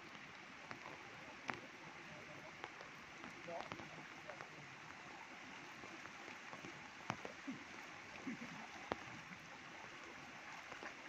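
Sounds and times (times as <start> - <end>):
rain hiss: 0.0 - 11.0
running floodwater: 0.0 - 11.0.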